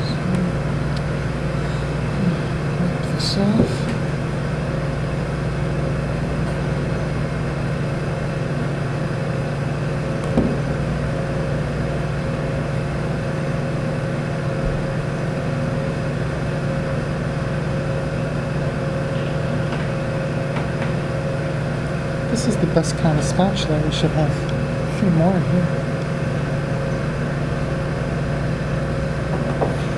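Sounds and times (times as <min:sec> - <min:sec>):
machinery humming: 0:00.0 - 0:29.9.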